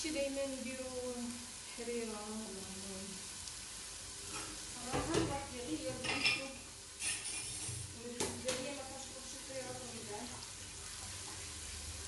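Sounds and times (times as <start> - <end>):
chicken and onion sizzling in oil: 0.0 - 12.0.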